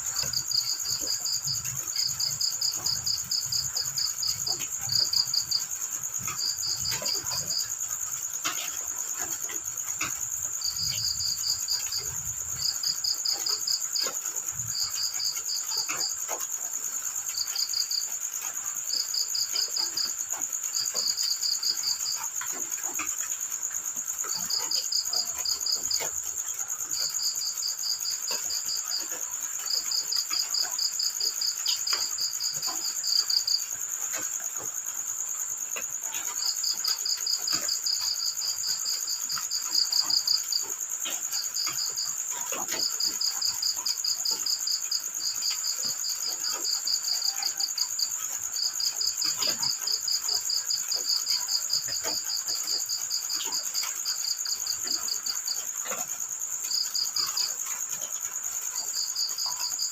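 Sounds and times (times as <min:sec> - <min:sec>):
crickets trilling: 0:00.0 - 0:59.9
high steady insect drone: 0:00.0 - 0:59.9.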